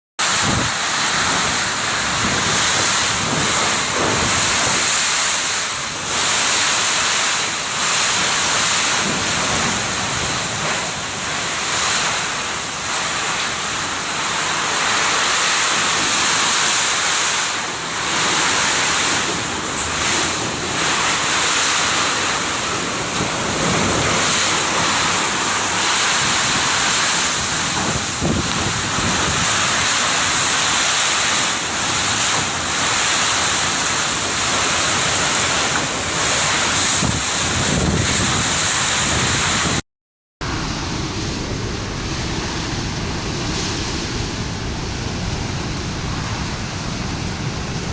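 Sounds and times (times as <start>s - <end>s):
strong wind gusting: 0.2s - 39.8s, 40.4s - 47.9s
wind buffeting microphone: 0.2s - 39.8s, 40.4s - 47.9s.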